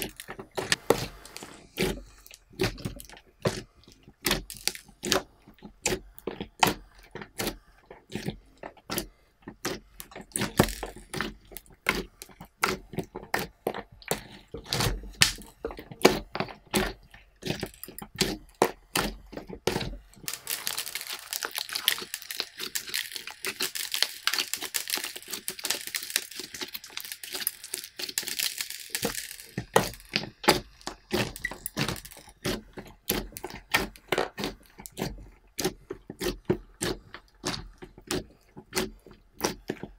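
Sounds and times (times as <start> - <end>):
slime clicking and popping: 0.0 - 39.9
slime crackling: 0.0 - 39.9.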